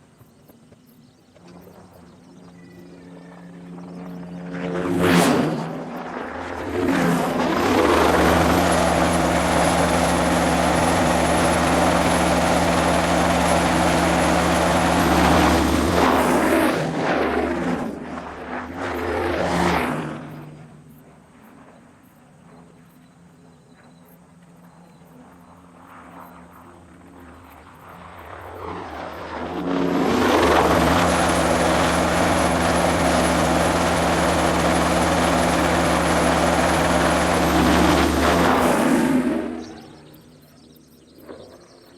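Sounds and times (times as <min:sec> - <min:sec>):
helicopter turbine and rotors: 0:00.0 - 0:41.9.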